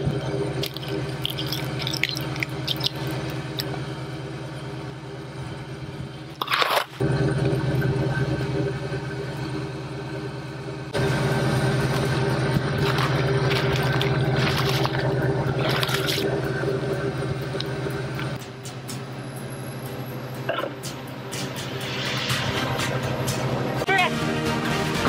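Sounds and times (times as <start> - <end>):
vehicle engine idling: 0.0 - 24.5.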